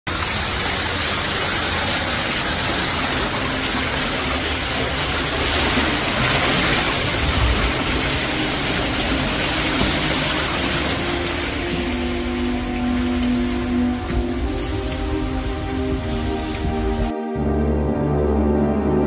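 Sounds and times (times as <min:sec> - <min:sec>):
rush of running water: 0:00.1 - 0:17.1.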